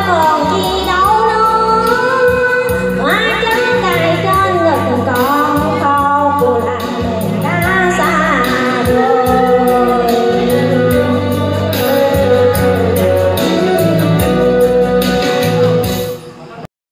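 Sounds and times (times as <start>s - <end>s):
woman singing: 0.0s - 15.8s
band accompaniment with steady beat: 0.0s - 16.6s.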